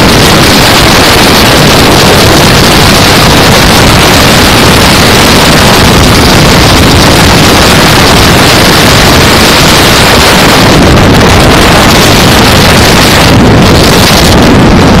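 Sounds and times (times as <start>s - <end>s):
motorcycle engine droning: 0.0s - 15.0s
wind rush on microphone: 0.0s - 15.0s.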